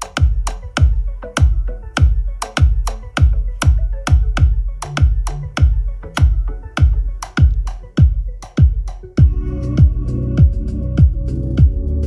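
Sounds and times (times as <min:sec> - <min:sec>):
electronic music with drum-machine beat: 0:00.0 - 0:12.0.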